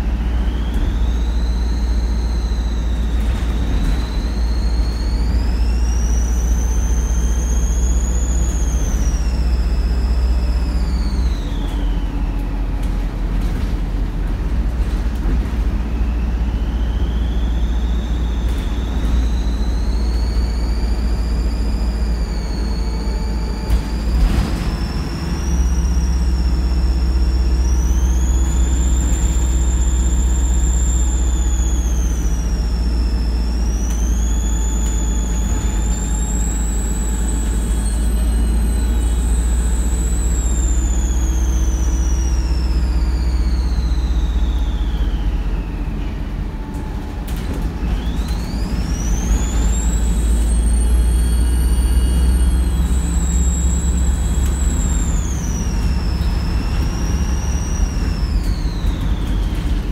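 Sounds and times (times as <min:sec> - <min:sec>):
turbocharger whistling: 0:00.0 - 0:13.9, 0:14.8 - 0:59.9
diesel bus engine drone: 0:00.0 - 0:59.9.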